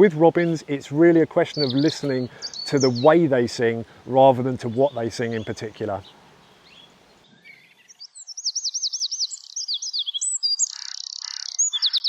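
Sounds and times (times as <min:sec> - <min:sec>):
robin singing: 0:00.0 - 0:12.0.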